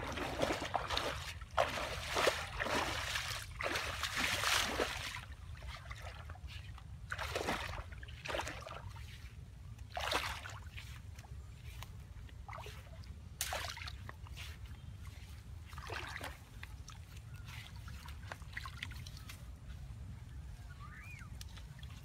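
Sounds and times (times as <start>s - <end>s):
water splashing and sloshing: 0.0s - 20.0s, 21.3s - 22.0s.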